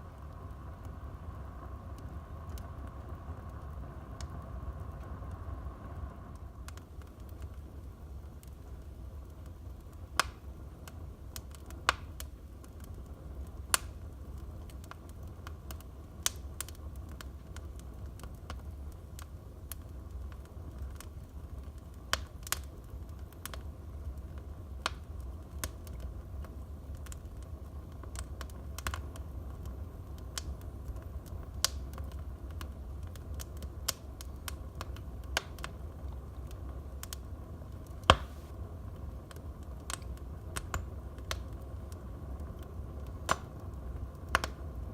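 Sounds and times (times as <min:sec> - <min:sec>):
fire pops: 0:00.0 - 0:44.9
wood fire crackling: 0:00.0 - 0:44.9.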